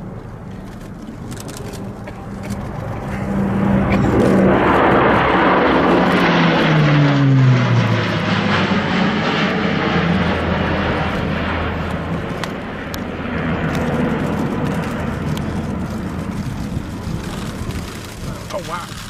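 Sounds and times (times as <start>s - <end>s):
propeller aircraft passing: 0.0s - 19.0s.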